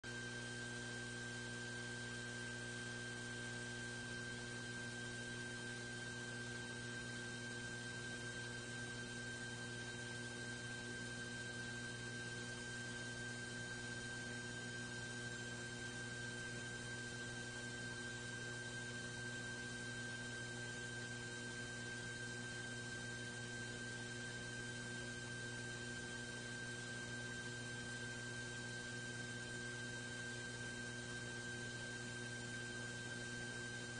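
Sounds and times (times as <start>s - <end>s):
electrical mains hum: 0.1s - 33.9s.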